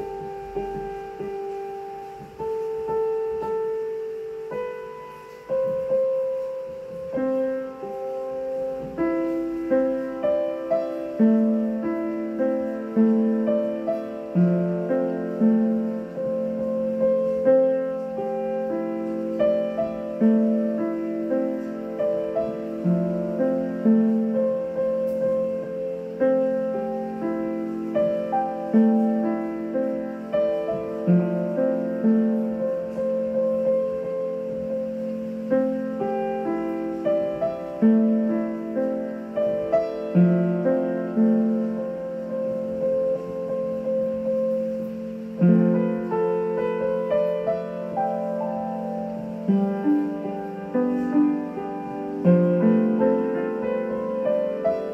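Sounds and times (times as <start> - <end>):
piano melody: 0.0 - 54.9.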